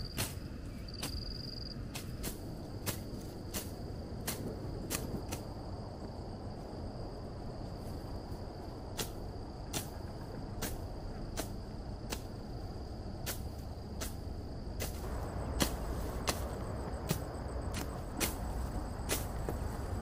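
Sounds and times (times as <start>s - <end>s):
high insect trill: 0.0s - 20.0s
wind rumble: 0.0s - 20.0s.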